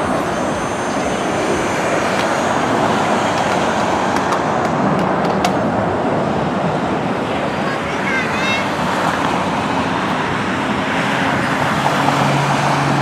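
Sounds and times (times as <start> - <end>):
jet passing overhead: 0.0 - 13.0.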